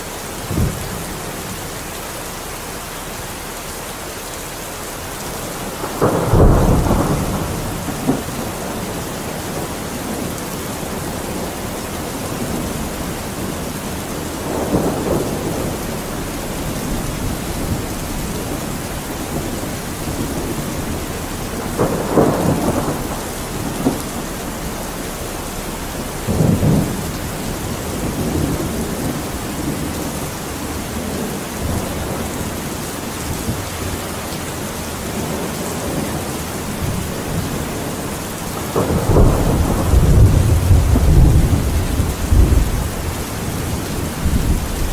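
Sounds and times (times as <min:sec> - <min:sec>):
heavy rain: 0:00.0 - 0:44.9
thunder rumbling: 0:05.3 - 0:44.9.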